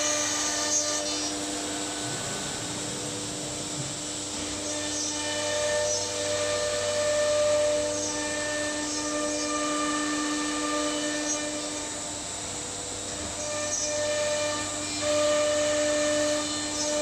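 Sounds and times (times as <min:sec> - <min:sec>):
machine whine: 0:00.0 - 0:17.0.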